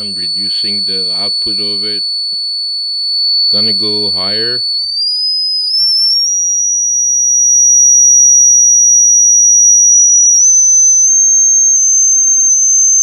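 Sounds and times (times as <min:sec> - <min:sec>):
high-pitched sine tone: 0:00.0 - 0:13.0.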